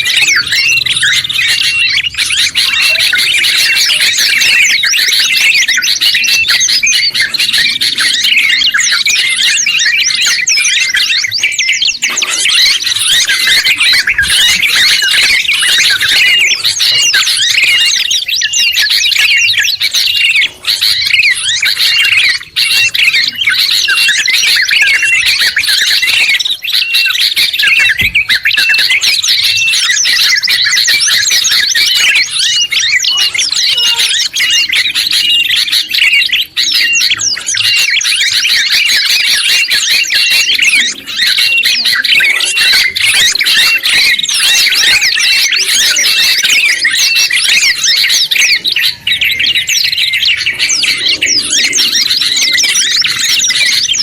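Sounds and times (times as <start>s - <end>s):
songbirds chirping and calling: 0.0s - 54.0s.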